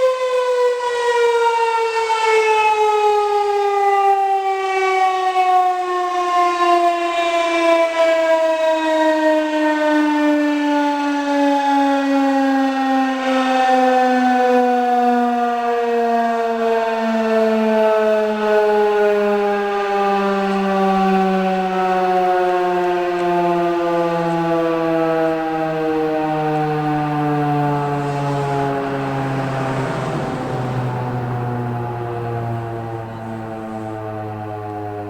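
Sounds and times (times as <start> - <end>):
siren winding down: 0.3 - 35.0.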